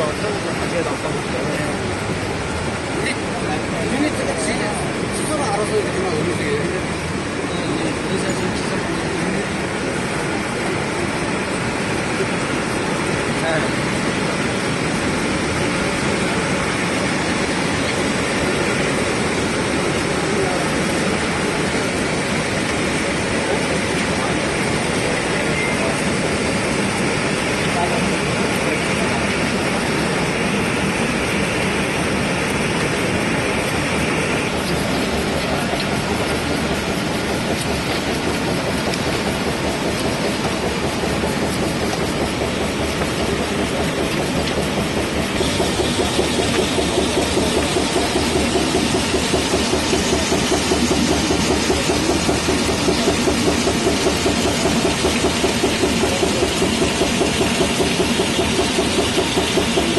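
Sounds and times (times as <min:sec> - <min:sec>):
printing press mechanical din: 0:00.0 - 0:59.9.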